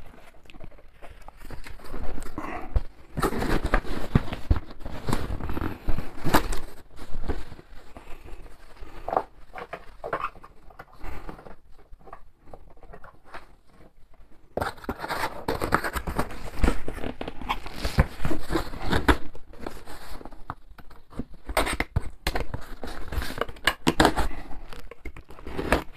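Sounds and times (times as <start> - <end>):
cardboard rustling and tearing: 0.0 - 25.9.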